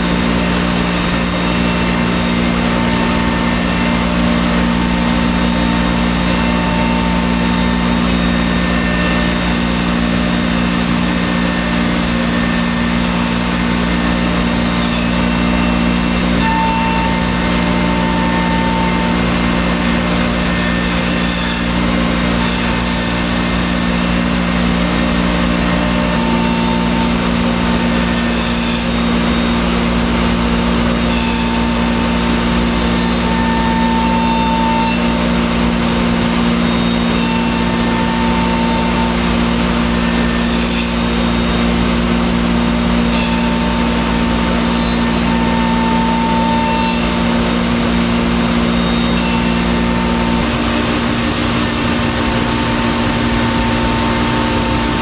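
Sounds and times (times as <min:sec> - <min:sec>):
cnc router cutting: 0:00.0 - 0:55.0.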